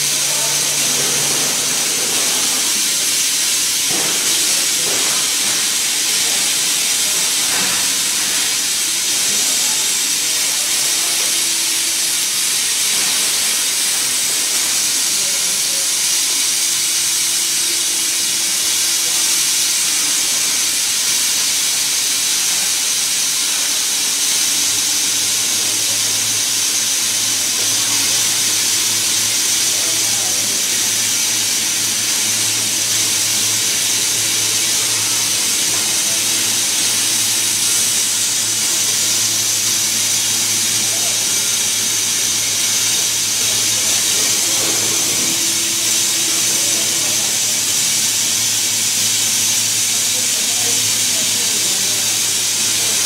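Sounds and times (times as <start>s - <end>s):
laser cutter gas jet hissing: 0.0s - 53.0s.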